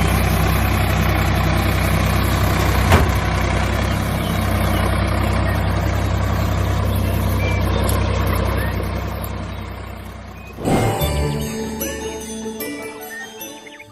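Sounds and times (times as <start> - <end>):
tractor engine idling: 0.0 - 13.9.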